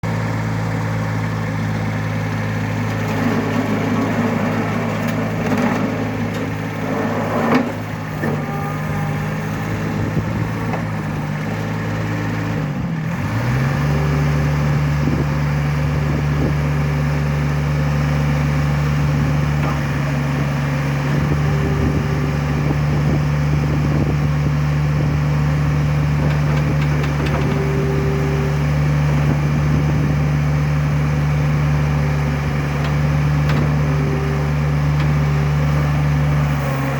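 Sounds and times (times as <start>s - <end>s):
skid steer diesel engine running: 0.0s - 36.9s.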